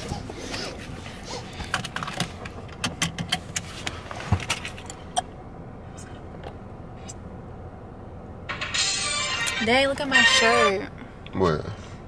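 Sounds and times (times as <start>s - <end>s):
low hum of car cabin: 0.0s - 12.0s.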